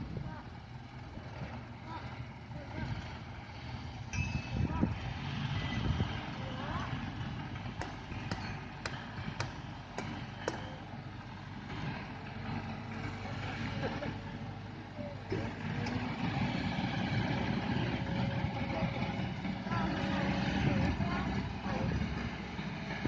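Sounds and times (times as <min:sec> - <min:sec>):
heavy diesel machinery running: 0:00.0 - 0:23.0.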